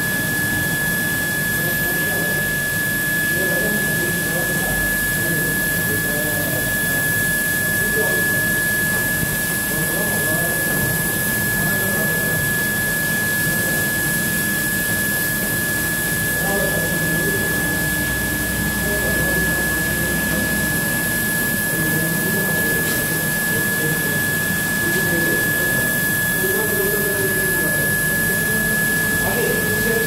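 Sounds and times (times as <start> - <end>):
high-pitched whine: 0.0 - 30.0
motor drone: 0.0 - 30.0.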